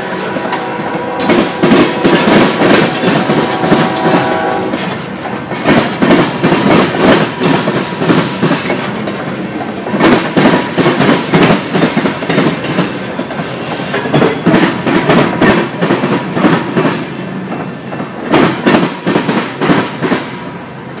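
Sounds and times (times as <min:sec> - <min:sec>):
freight train wheels clacking: 0:00.0 - 0:21.0.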